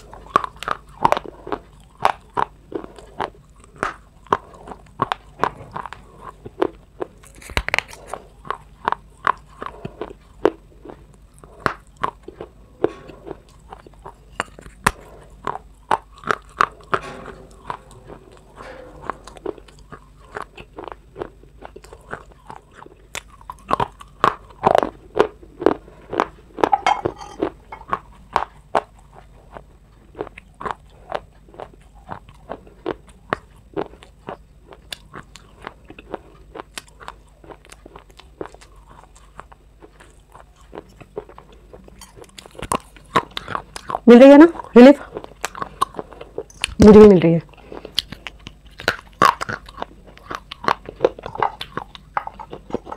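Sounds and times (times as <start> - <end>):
person crunching hard food: 0.0 - 46.8, 47.5 - 52.9.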